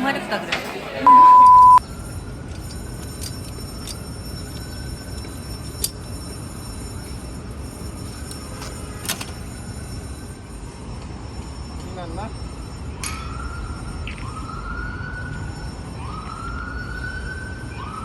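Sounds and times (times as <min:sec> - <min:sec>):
faint siren-like tone: 0:02.6 - 0:18.0.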